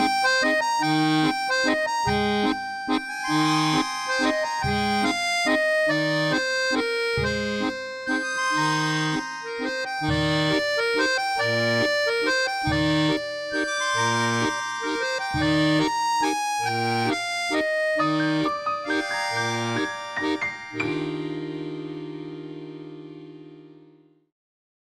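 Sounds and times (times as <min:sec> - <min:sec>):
accordion music: 0:00.0 - 0:24.2.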